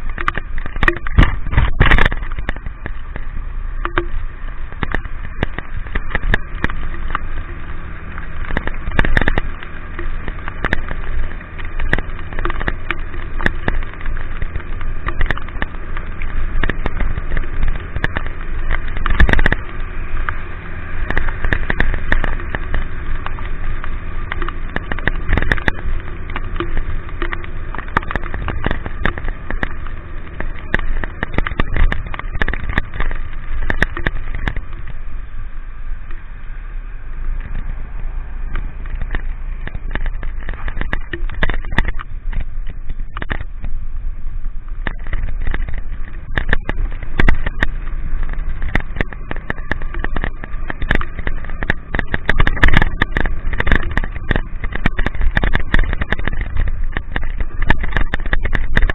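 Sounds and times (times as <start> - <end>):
raindrops hitting microphone: 0.0 - 58.9
vehicle engine running: 0.0 - 58.9.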